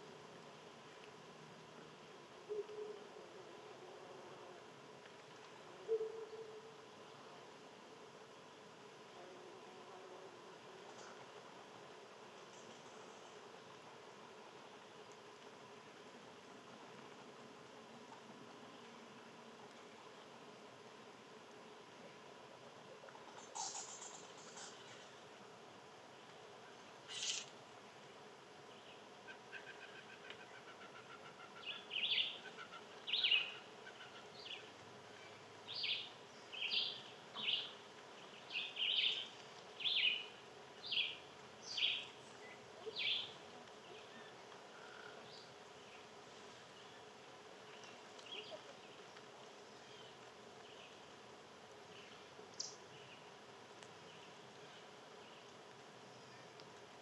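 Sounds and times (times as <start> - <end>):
outdoor background: 0.0 - 57.0.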